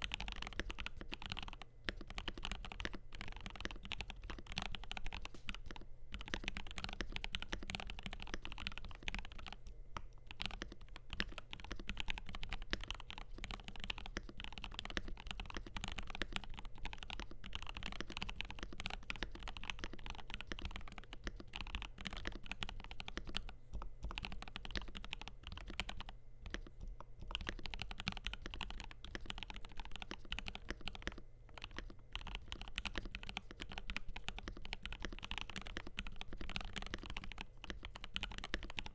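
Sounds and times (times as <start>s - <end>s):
mechanical keyboard typing: 0.0s - 9.6s, 10.2s - 38.9s.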